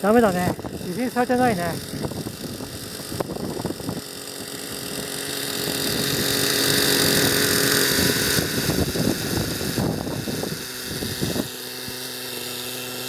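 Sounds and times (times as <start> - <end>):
rc helicopter engine and rotors: 0.0 - 13.0.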